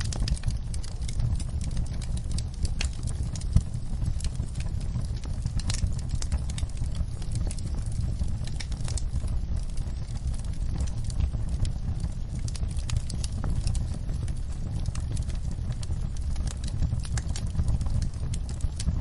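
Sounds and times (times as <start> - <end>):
fire low rumble: 0.0 - 19.0
wood fire crackling and popping: 0.0 - 19.0.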